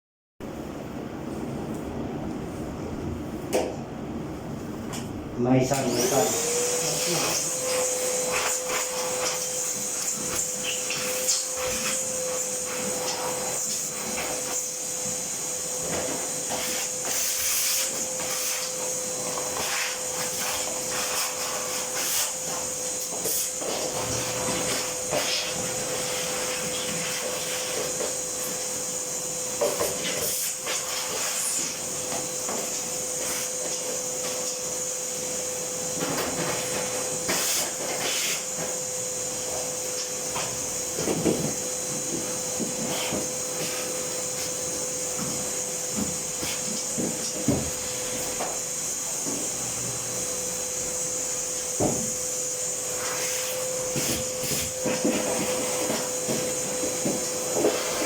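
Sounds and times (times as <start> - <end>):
clothes dryer humming: 0.4 - 58.0.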